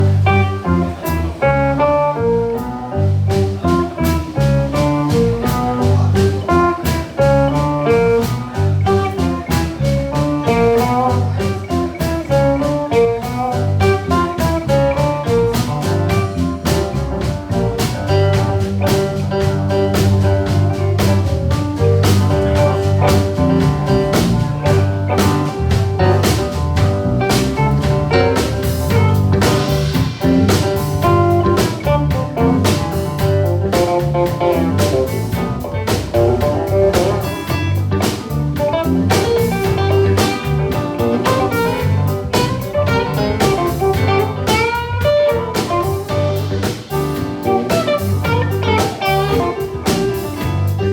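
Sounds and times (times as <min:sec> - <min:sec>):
blues band playing: 0:00.0 - 0:50.9
guitar: 0:00.0 - 0:50.9.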